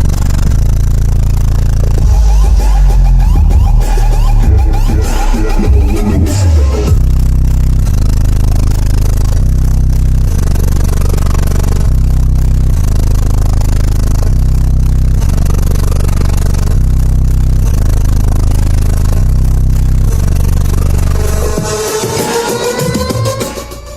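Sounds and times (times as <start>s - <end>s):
deep bass line from subwoofer: 0.0s - 23.9s.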